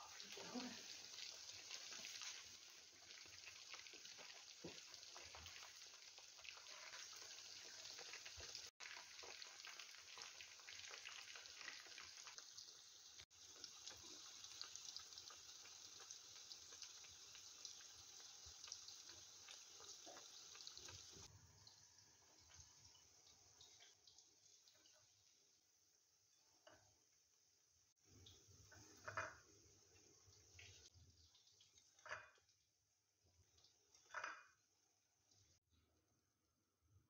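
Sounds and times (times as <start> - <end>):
wings sizzling in hot oil: 0.0 - 32.4.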